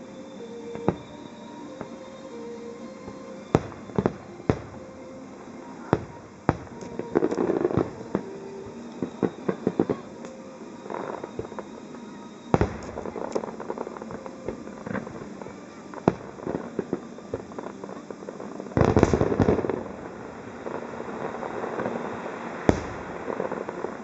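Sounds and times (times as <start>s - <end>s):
firework crackling pops: 0.0s - 2.2s, 2.9s - 24.0s
firework shells bursting: 2.9s - 24.0s.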